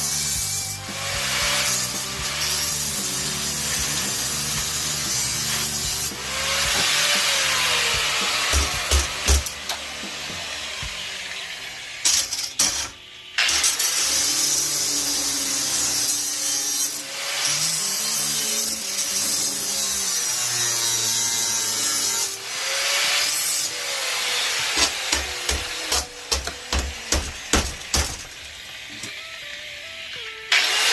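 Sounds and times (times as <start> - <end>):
power tool sawing: 0.0 - 30.9.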